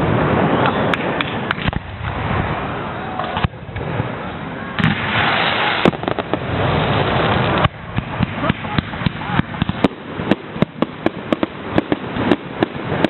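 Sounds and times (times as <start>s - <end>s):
fireworks bangs: 0.0s - 13.0s
fireworks crackling and fizzing: 0.0s - 13.0s
hissing firework burst: 0.0s - 13.0s.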